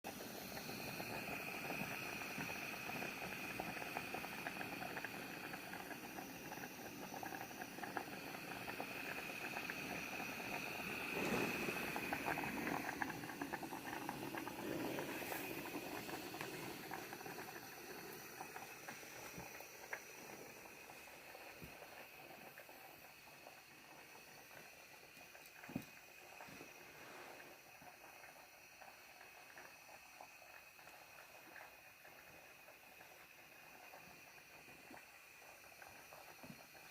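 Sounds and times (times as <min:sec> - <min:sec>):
food sizzling and bubbling: 0:00.1 - 0:36.9.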